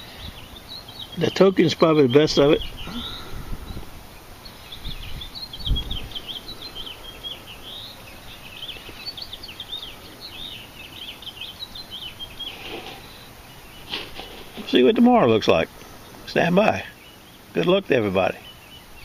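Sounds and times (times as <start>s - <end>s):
small birds chirping: 0.0s - 19.0s
steady background hiss: 0.0s - 19.0s.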